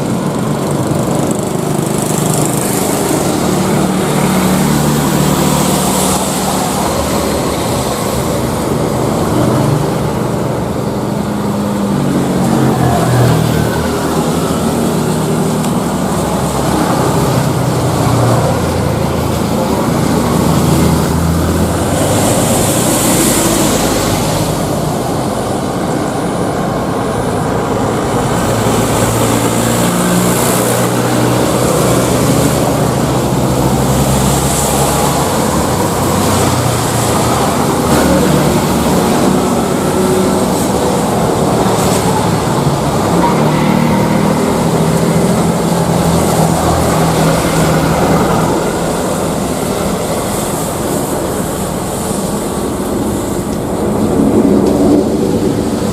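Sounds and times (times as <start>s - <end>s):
jet engines running: 0.0s - 55.9s.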